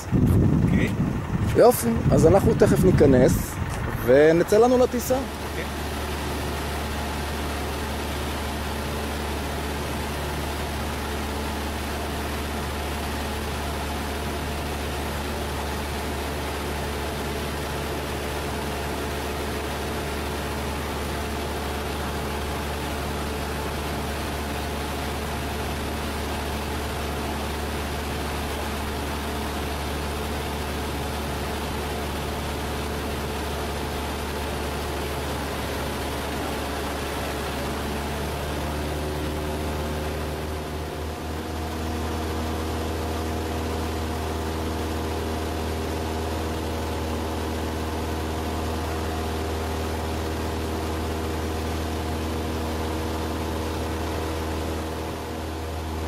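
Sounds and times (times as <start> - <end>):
plane engine droning in cabin: 0.0 - 56.0.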